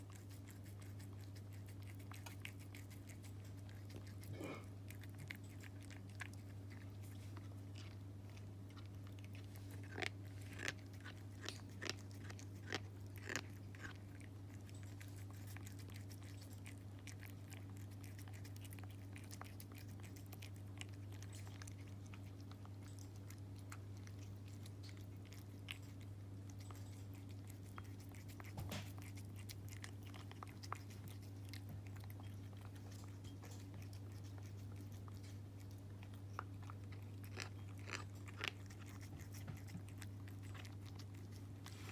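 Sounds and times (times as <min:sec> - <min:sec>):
cat chewing and crunching: 0:00.0 - 0:41.9
steady low hum: 0:00.0 - 0:41.9.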